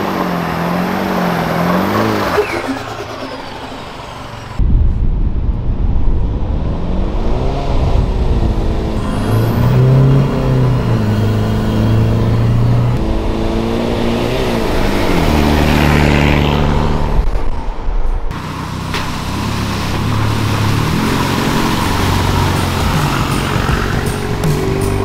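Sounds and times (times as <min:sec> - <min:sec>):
car engine revving: 0:00.0 - 0:04.7, 0:05.6 - 0:25.0
wind: 0:00.0 - 0:25.0.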